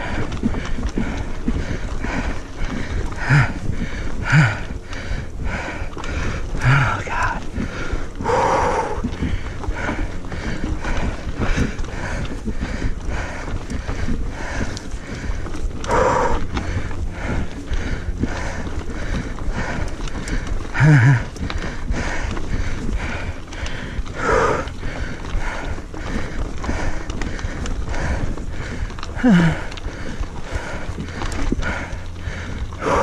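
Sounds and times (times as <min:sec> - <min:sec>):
bike frame rattling: 0:00.0 - 0:33.0
rider grunting: 0:00.0 - 0:33.0
tyres crunching on stones: 0:00.0 - 0:33.0.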